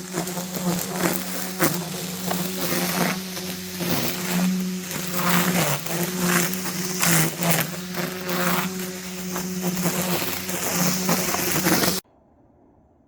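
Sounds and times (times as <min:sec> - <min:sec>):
brushcutter engine buzzing: 0:00.0 - 0:12.0.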